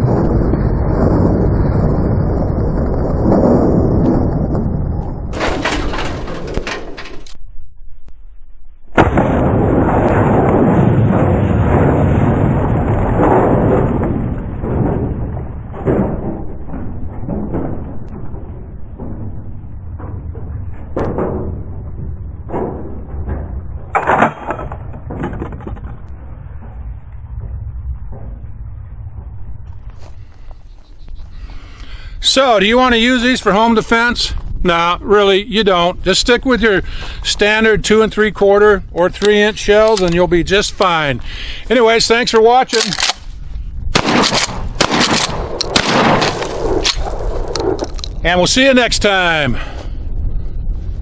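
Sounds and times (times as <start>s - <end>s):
steady low rumble: 0.0s - 51.0s
wind buffeting microphone: 0.0s - 51.0s.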